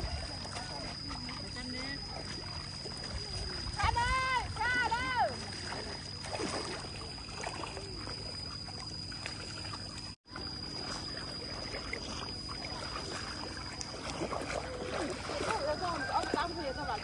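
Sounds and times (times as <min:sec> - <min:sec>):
feet wading through water and mud: 0:00.0 - 0:17.0
water trickling: 0:00.0 - 0:17.0.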